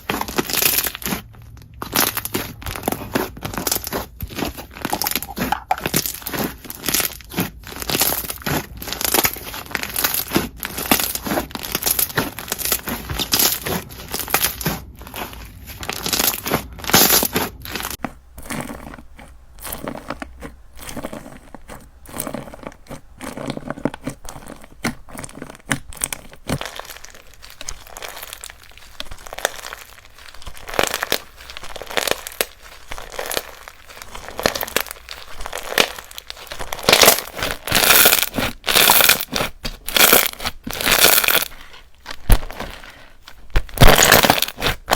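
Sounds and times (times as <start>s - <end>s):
crunchy slime with beads squeezed: 0.0s - 44.9s.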